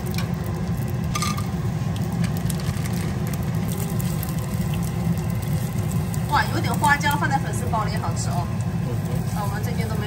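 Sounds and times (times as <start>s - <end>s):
bacon frying in oil: 0.0s - 10.0s
oil spitting crackle: 0.0s - 10.0s.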